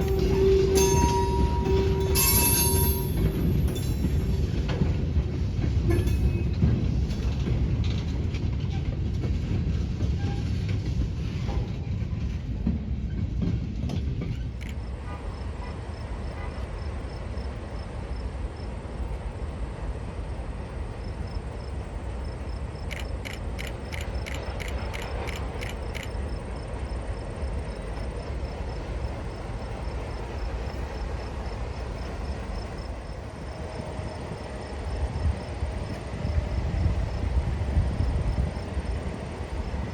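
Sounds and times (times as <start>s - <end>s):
freight train rolling by: 0.0s - 39.9s.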